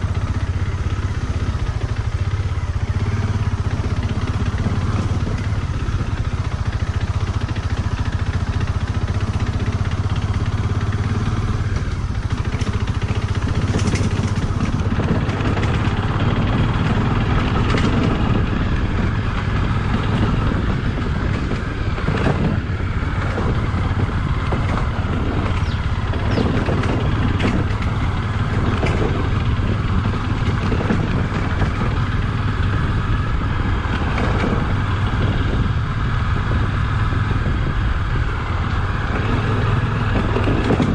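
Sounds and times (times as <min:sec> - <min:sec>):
motorcycle engine running: 0:00.0 - 0:40.9
rattles and knocks from bumps: 0:03.8 - 0:35.6, 0:38.6 - 0:40.9.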